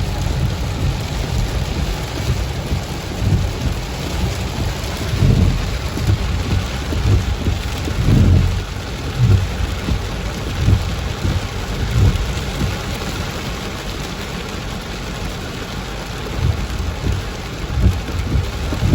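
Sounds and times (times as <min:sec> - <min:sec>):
low rumbles: 0:00.0 - 0:13.3, 0:16.2 - 0:18.9
heavy rain pouring: 0:00.0 - 0:18.9.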